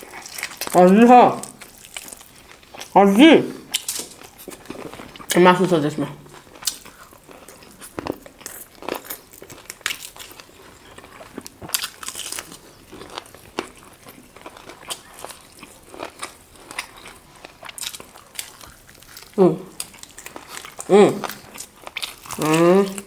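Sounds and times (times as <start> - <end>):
chewing and gnawing chicken: 0.0 - 0.8, 1.4 - 3.0, 3.6 - 5.4, 6.3 - 23.0.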